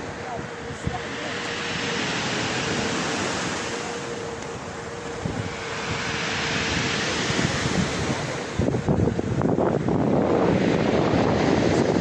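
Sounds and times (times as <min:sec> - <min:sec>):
waves breaking on shore: 0:00.0 - 0:12.0
wind buffeting microphone: 0:00.0 - 0:12.0.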